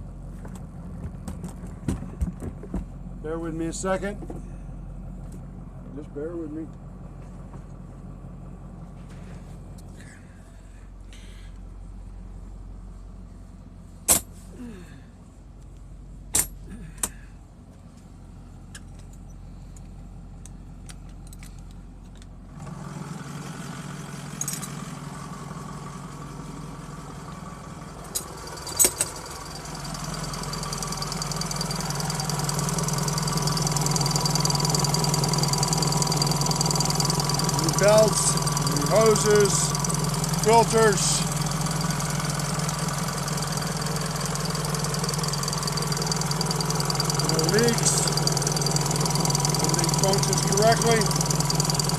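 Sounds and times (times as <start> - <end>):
diesel engine idling: 2.9 - 51.9.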